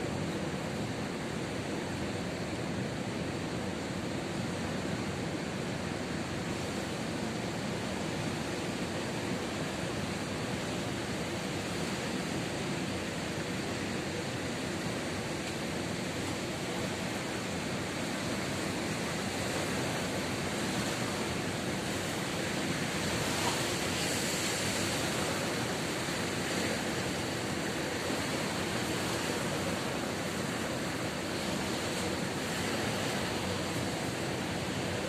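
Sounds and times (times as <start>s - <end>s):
ocean surf washing onto beach: 0.0s - 35.0s.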